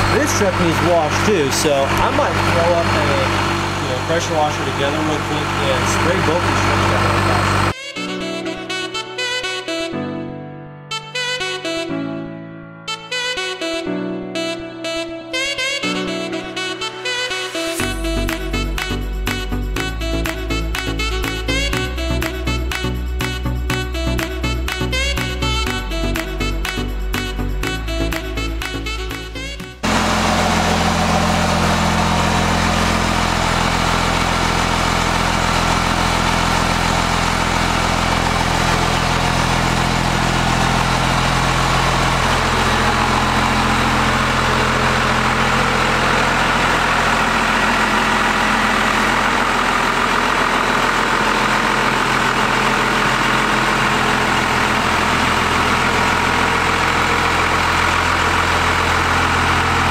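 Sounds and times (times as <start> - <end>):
engine idling: 0.0 - 7.8, 17.7 - 59.9.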